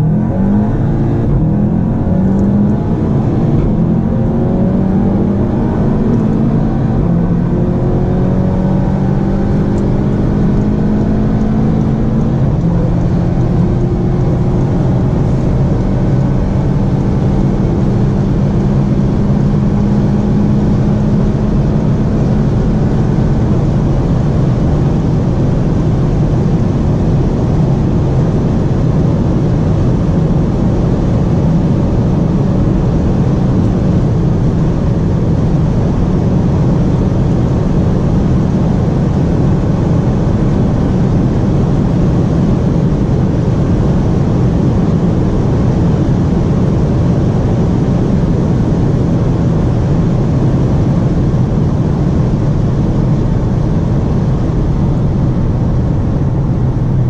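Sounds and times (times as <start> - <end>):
car engine accelerating: 0.0 - 57.0
wind and tyre rush: 0.0 - 57.0.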